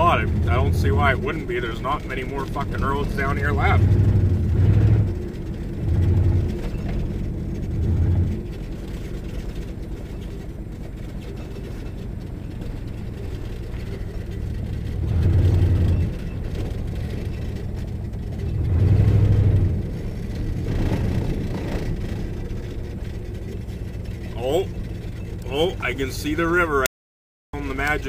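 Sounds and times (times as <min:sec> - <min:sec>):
truck engine rumbling: 0:00.0 - 0:26.9, 0:27.6 - 0:28.0.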